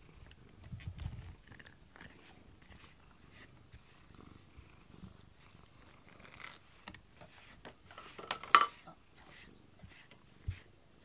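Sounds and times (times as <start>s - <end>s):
cat purring: 0.0s - 10.6s
soft rustles: 0.4s - 11.0s.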